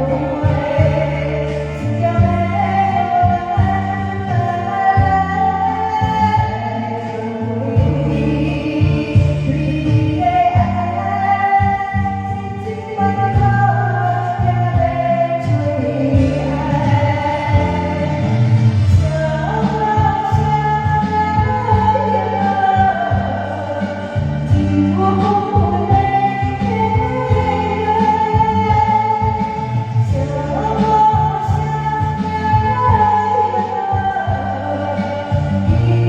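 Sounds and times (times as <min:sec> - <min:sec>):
karaoke backing track: 0:00.0 - 0:36.0
woman singing: 0:00.0 - 0:36.0.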